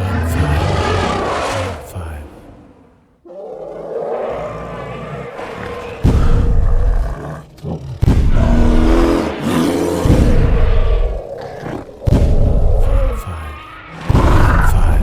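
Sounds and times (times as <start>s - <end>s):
deep rough dinosaur roars: 0.0s - 15.0s.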